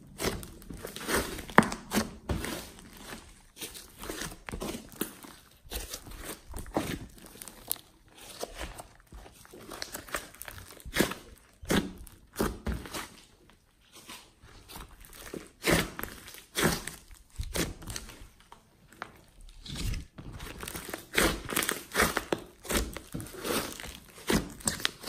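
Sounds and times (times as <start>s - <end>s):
slime squishing and crackling: 0.0s - 25.0s.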